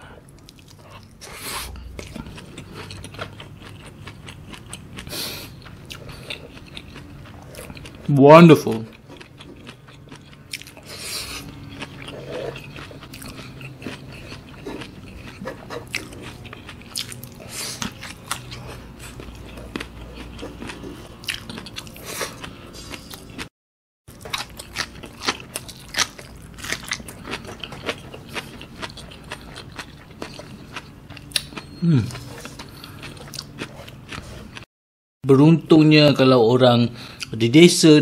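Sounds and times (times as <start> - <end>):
close chewing with crunches: 0.2 - 23.5, 24.1 - 34.7.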